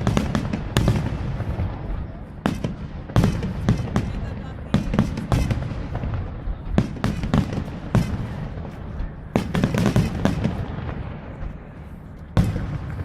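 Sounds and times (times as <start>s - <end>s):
fireworks bursting bangs: 0.0s - 13.0s.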